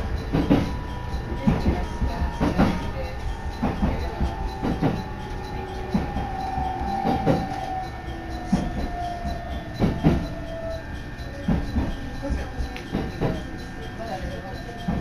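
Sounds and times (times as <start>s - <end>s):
thin whine: 0.0s - 15.0s
train interior rumble: 0.0s - 15.0s.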